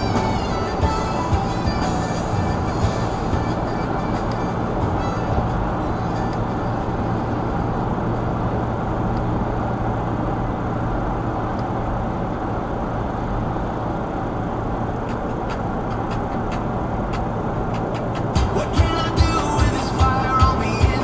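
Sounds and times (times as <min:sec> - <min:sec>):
low engine hum: 0:00.0 - 0:21.0
tyre road noise: 0:00.0 - 0:21.0.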